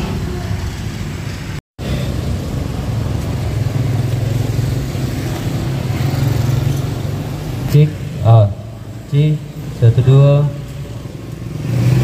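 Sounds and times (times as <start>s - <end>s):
motorcycle engines passing: 0.0s - 12.0s.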